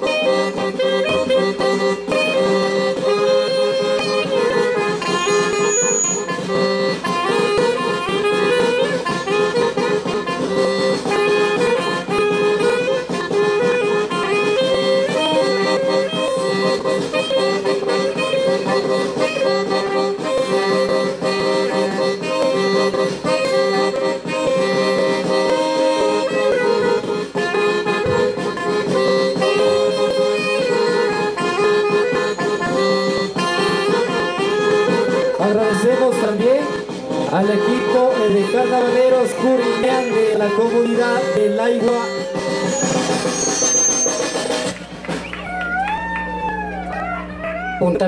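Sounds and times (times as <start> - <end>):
accordion playing folk tune: 0.0 - 45.2
guitar accompaniment: 0.0 - 48.0.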